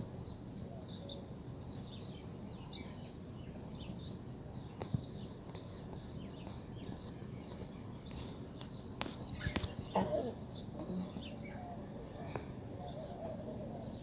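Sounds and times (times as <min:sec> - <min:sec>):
outdoor background noise: 0:00.0 - 0:14.0
small birds chirping: 0:00.2 - 0:14.0.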